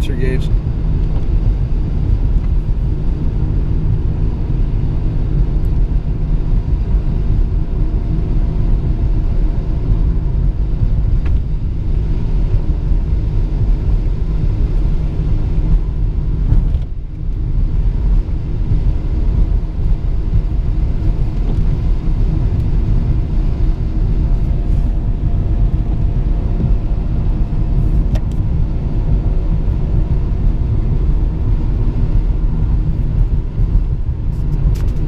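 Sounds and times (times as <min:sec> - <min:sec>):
car engine rumble from cabin: 0:00.0 - 0:35.0.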